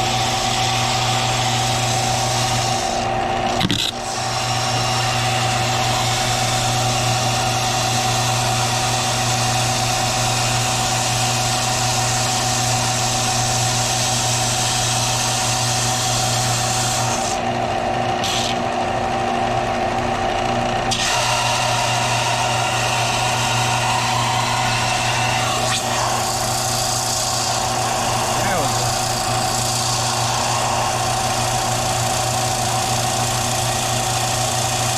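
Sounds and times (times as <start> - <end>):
sander motor hum: 0.0 - 34.9.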